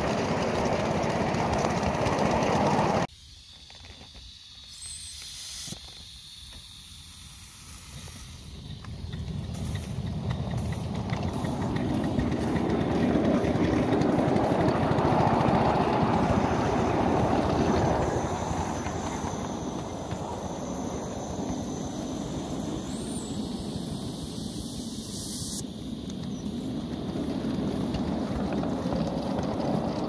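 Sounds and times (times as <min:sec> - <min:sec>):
steam exhaust rushing: 0:00.0 - 0:03.1, 0:07.1 - 0:30.0
wheels rattling on rails: 0:00.0 - 0:03.1, 0:08.3 - 0:30.0.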